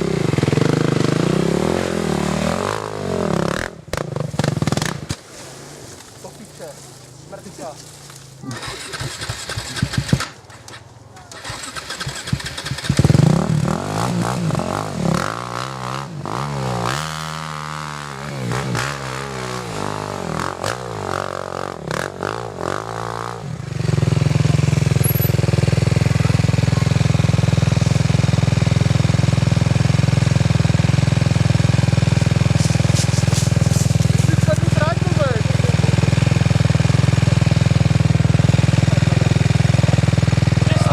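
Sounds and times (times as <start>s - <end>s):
atv engine revving: 0.0s - 5.2s, 8.4s - 40.9s.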